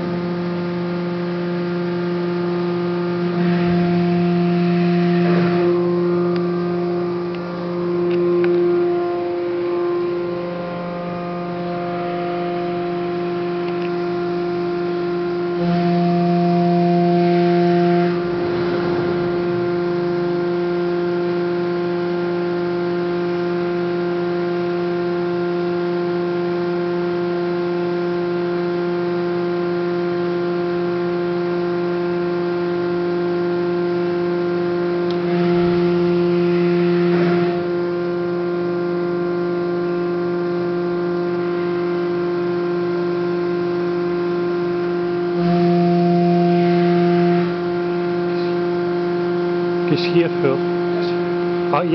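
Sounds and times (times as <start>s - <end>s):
hydraulic power unit hum: 0.0s - 51.9s.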